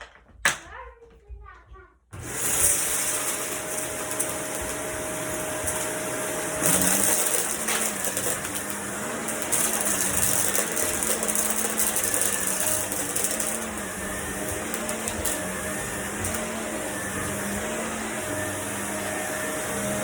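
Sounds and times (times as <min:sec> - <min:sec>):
vacuum cleaner running: 0:02.2 - 0:20.0.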